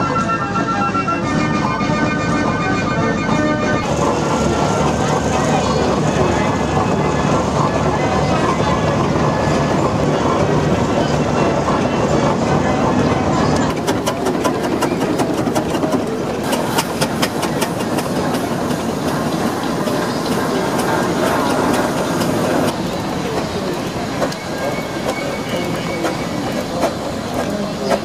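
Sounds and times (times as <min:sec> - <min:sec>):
voices: 0:03.8 - 0:28.0.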